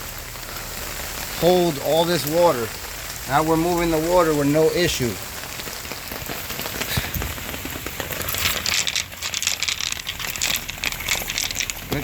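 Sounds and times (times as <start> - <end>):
rain pattering on surfaces: 0.0 - 12.0.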